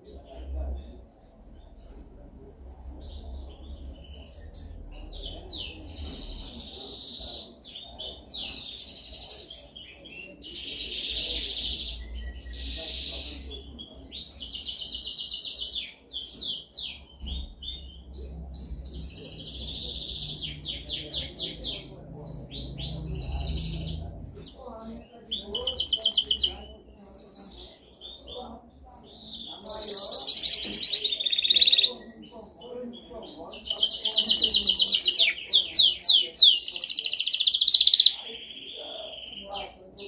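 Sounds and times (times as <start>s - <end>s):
canary singing trills: 3.0s - 40.0s.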